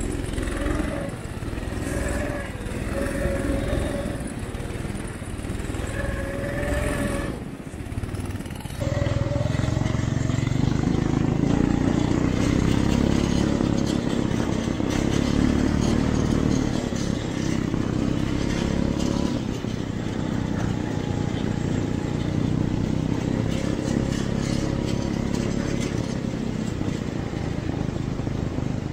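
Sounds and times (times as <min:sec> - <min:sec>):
snow vehicle engines running: 0:00.0 - 0:28.9.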